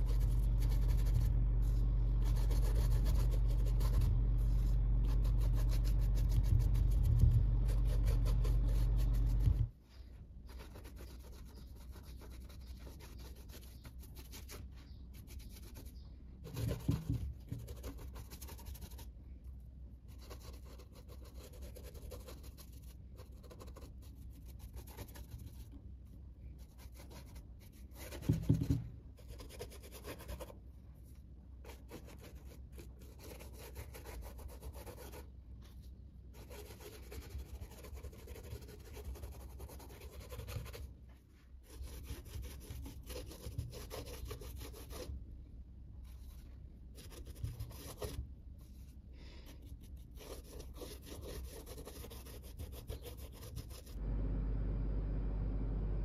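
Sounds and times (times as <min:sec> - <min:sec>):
paintbrush rubbing on canvas: 0:00.0 - 0:19.1, 0:26.6 - 0:45.1, 0:46.0 - 0:54.0.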